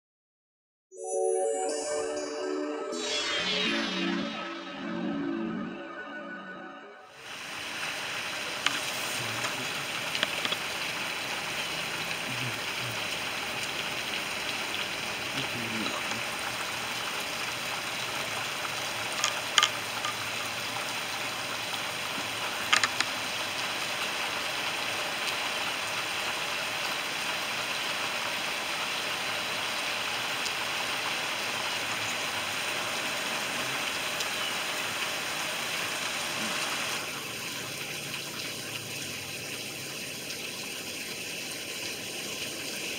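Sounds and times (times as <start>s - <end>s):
steady rain falling: 7.2s - 42.9s.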